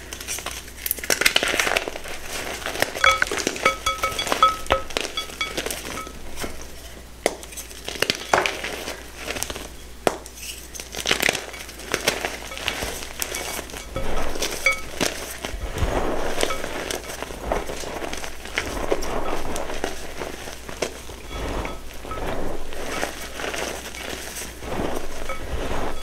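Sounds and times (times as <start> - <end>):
chalk crushed by hand: 0.0 - 26.0.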